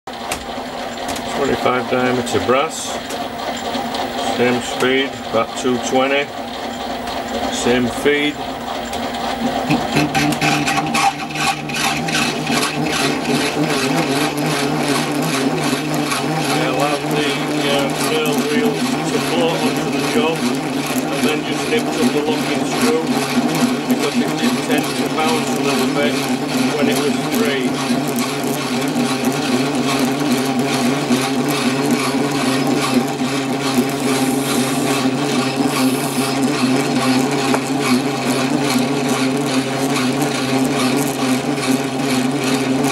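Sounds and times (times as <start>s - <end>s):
knurling tool scratchy ticking: 0.1s - 42.9s
metal lathe gear hum: 0.1s - 42.9s.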